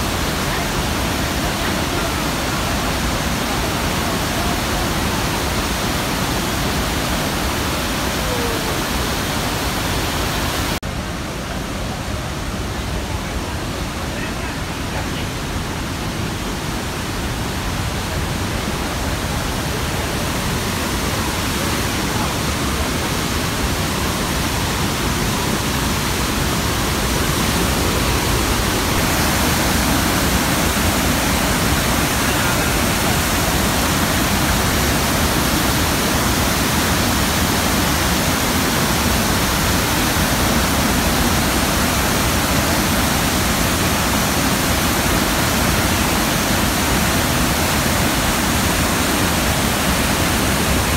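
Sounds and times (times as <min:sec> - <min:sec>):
waterfall crashing onto rocks: 0:00.0 - 0:11.1, 0:11.8 - 0:50.9.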